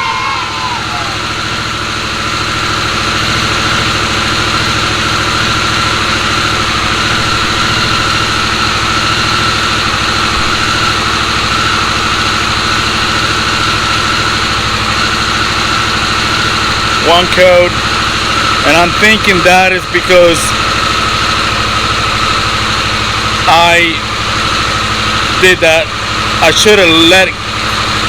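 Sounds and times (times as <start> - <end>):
high whine: 0.0 - 28.0
motorcycle engine idling: 0.0 - 28.0.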